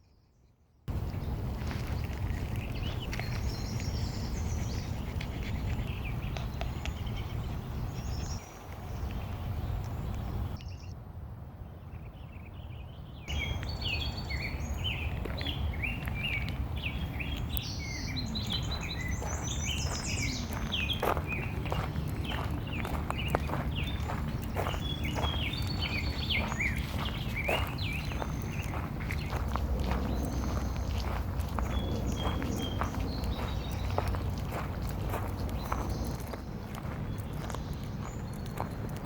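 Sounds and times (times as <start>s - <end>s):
low outdoor rumble: 0.9s - 39.0s
birds chirping and singing: 1.1s - 10.9s, 11.8s - 39.0s.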